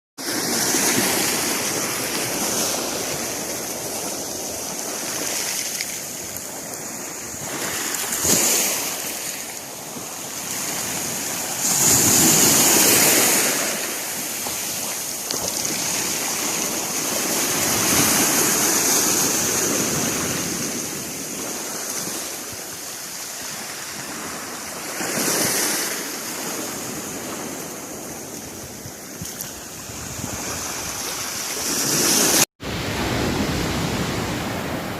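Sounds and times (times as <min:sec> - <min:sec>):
sea waves washing onto shore: 0:00.2 - 0:34.9.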